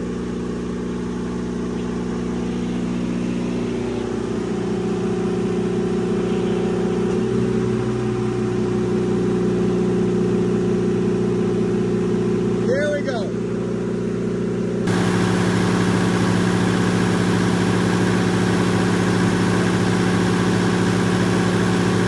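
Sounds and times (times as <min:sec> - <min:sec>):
generator engine drone: 0:00.0 - 0:22.0.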